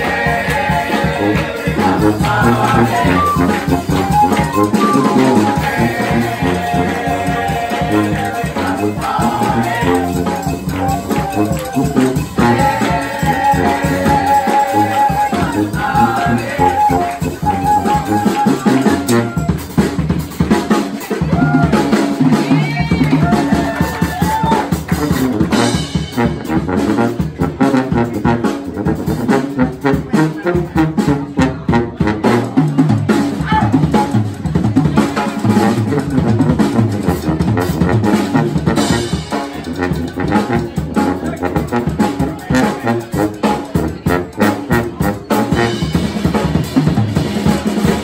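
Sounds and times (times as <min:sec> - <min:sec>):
drum kit beat: 0:00.0 - 0:48.0
horn band playing: 0:00.0 - 0:48.0.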